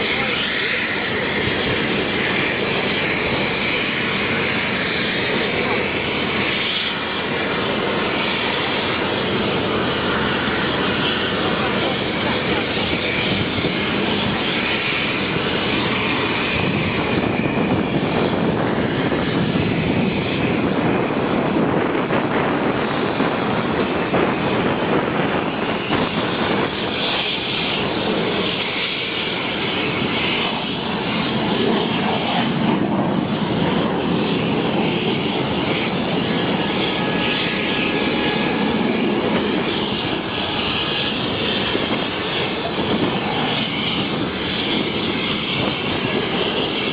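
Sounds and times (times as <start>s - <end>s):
jet aircraft rushing noise: 0.0s - 46.9s.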